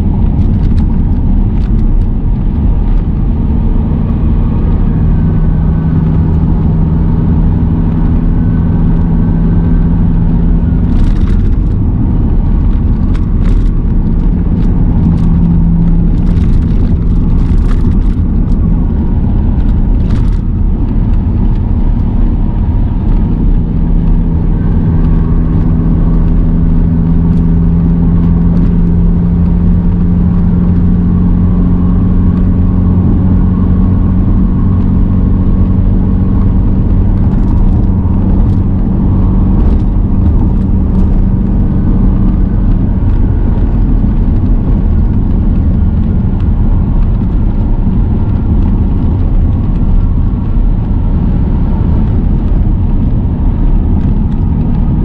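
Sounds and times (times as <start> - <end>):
droning car engine: 0.0 - 55.0
tyre and road rumble: 0.0 - 55.0.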